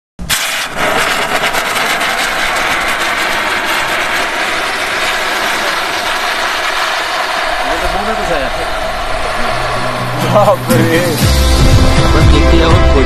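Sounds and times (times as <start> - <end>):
vapour jet rushing hiss: 0.2 - 11.9.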